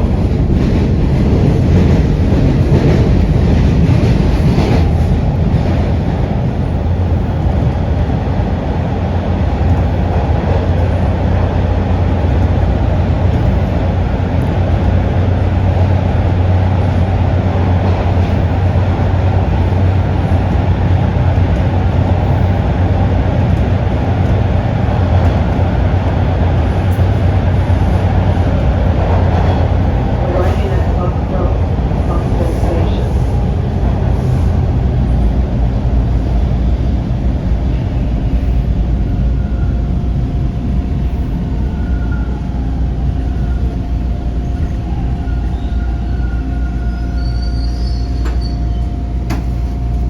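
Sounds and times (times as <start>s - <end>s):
subway train rumble: 0.0s - 50.0s.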